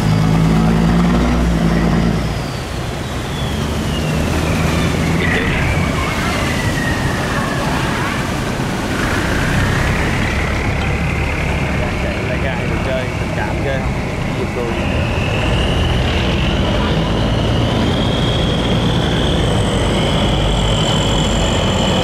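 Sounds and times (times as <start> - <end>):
boat engines running: 0.0 - 22.0
high whine gliding down: 0.0 - 22.0.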